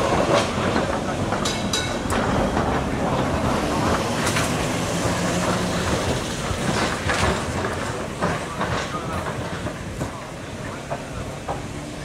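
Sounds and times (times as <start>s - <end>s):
electric tram rumble and hum: 0.0s - 12.0s
wheels clicking on rails: 0.0s - 12.0s.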